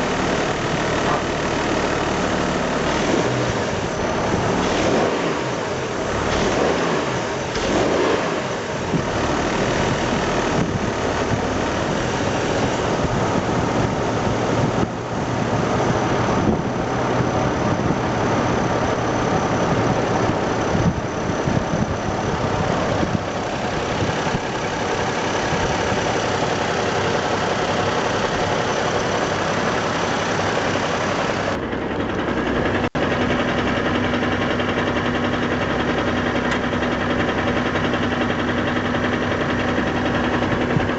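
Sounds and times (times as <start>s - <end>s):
rough vibrating car engine: 0.0s - 40.9s.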